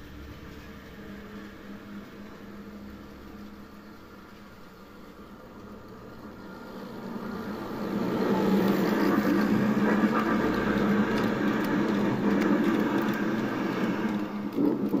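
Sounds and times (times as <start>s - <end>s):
model train rumbling past: 0.0s - 15.0s.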